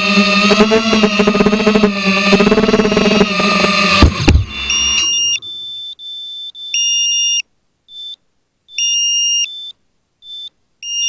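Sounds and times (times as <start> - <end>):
electronic beeper beeping: 0.3 - 11.0.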